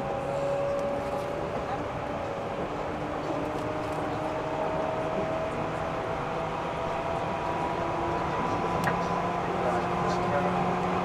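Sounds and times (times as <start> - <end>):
train running on track: 0.0 - 11.0.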